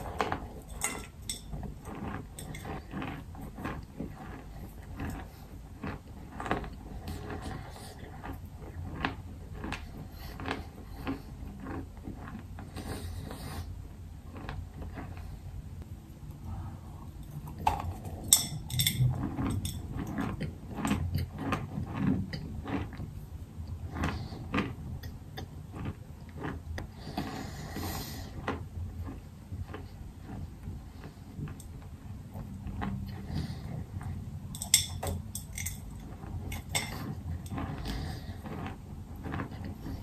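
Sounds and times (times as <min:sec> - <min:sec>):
chewing crunchy chalk: 0:00.0 - 0:40.0.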